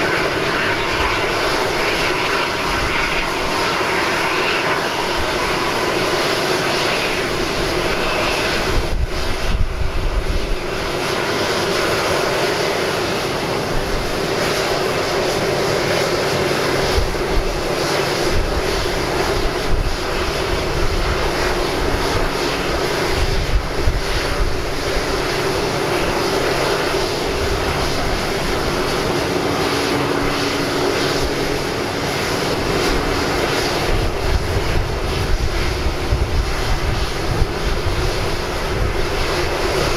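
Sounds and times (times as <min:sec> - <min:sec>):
jet airliner rush and hum: 0:00.0 - 0:39.9.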